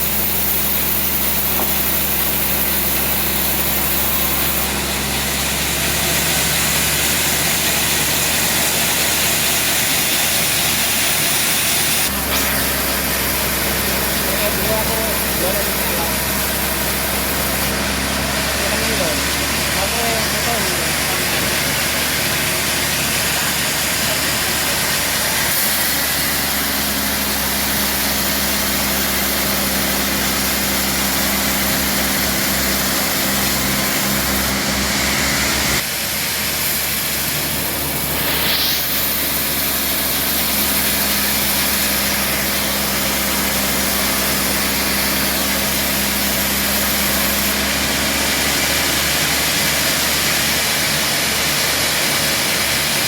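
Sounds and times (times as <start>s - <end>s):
band sawmill humming: 0.0s - 53.0s.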